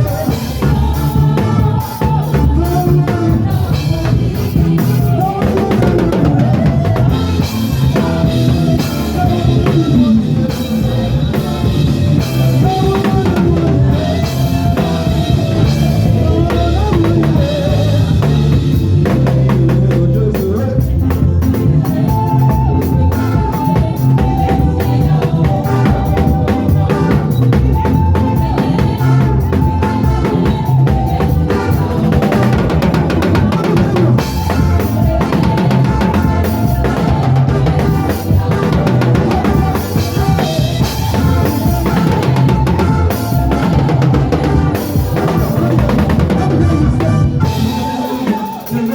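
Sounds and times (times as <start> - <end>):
heavy bass line: 0.0 - 48.2
drum kit: 0.0 - 48.9
gospel band playing: 0.0 - 48.9.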